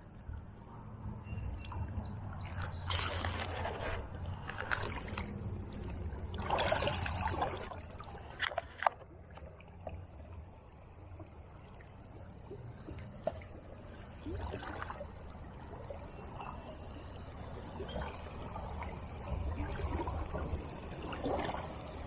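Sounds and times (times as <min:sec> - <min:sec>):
water splashing while wading: 0:01.2 - 0:22.0.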